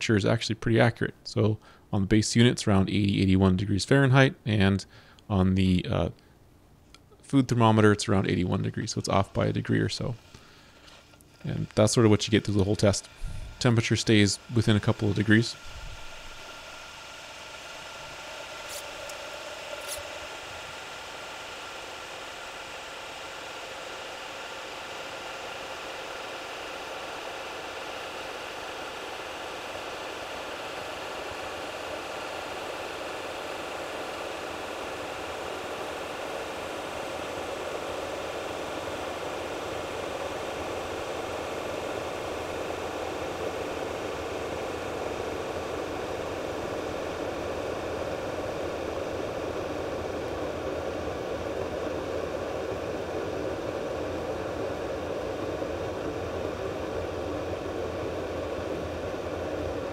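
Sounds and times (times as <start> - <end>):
kettle water heating: 8.2 - 59.9.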